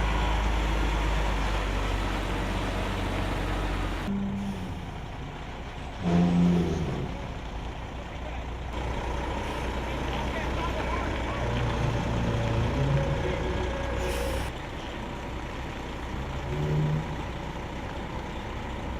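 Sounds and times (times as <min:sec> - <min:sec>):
truck engine rumbling: 0:00.0 - 0:18.9.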